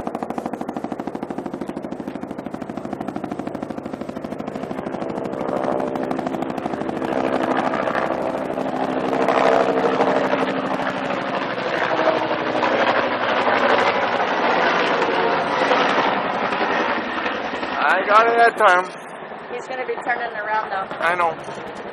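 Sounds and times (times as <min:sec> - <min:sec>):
helicopter rotor chop and engine: 0:00.0 - 0:21.9.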